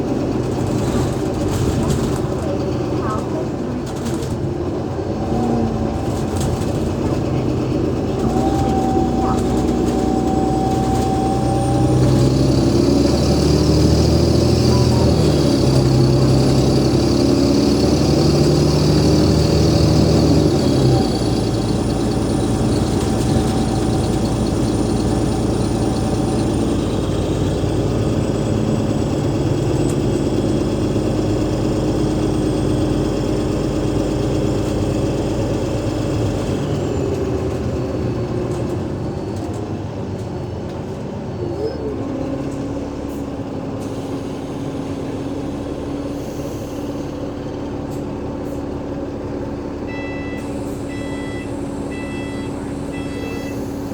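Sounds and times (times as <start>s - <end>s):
diesel bus engine droning: 0.0s - 53.9s.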